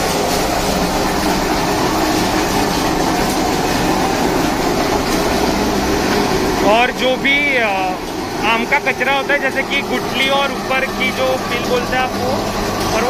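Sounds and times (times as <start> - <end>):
pulping machine running: 0.0 - 13.0.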